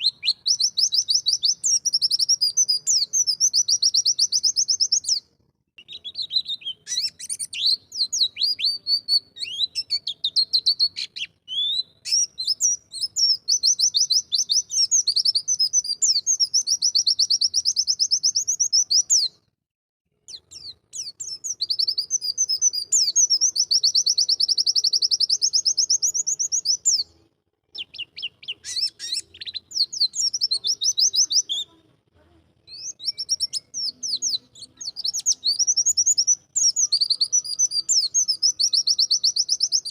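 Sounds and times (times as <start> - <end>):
bird trilling song: 0.0 - 19.4, 20.3 - 31.8, 32.6 - 39.9.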